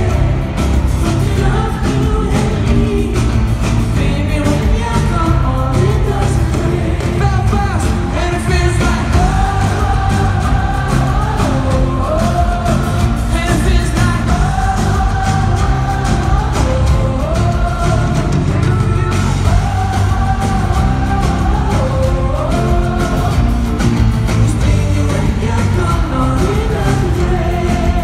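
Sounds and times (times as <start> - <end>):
live pop-rock band: 0.0 - 28.0
person singing: 0.0 - 28.0.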